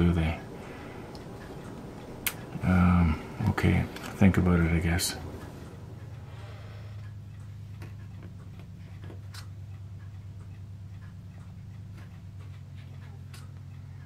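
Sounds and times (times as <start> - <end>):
faint regular ticking: 0.0 - 14.0
steady low hum: 0.0 - 14.0.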